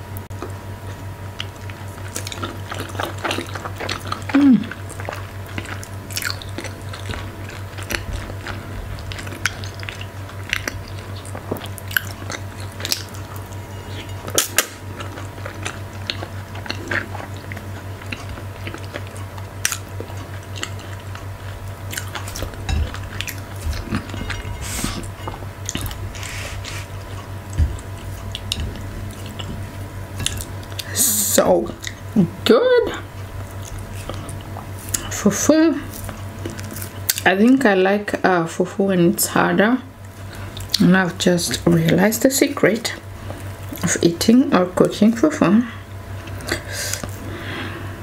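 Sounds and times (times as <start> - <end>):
low electrical hum: 0.0 - 48.0
chewing and mouth sounds: 0.4 - 32.2, 33.0 - 35.2, 35.8 - 37.6, 40.0 - 42.0, 42.9 - 44.1.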